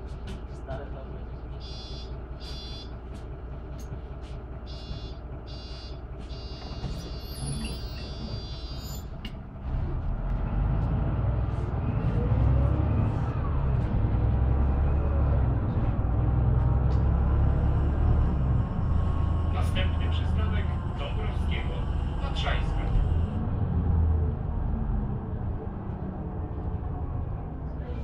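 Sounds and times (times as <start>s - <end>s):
diesel bus engine: 0.0s - 28.0s.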